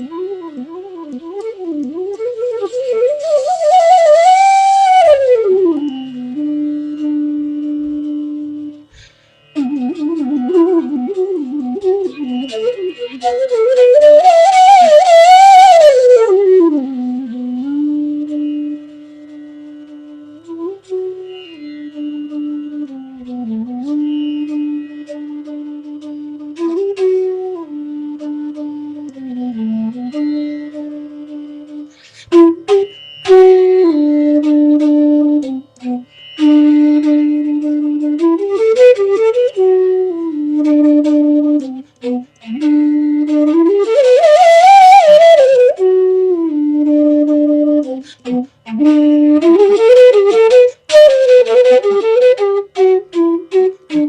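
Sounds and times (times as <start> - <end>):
bamboo flute melody: 0.0 - 54.0.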